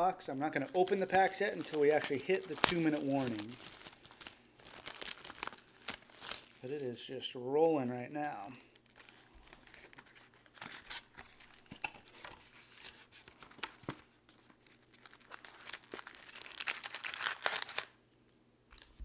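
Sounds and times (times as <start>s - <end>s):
foil packs crinkling: 0.0s - 7.1s, 8.7s - 18.0s.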